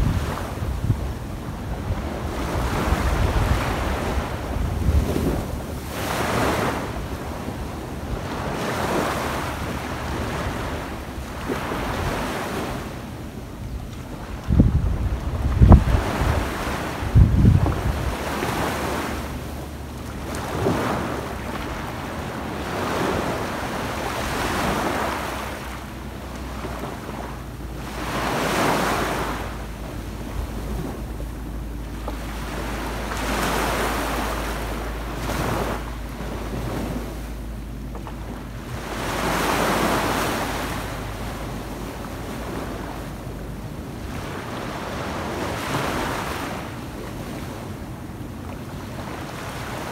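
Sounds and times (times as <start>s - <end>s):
small waves breaking on beach: 0.0s - 49.9s
wind buffeting microphone: 0.0s - 49.9s.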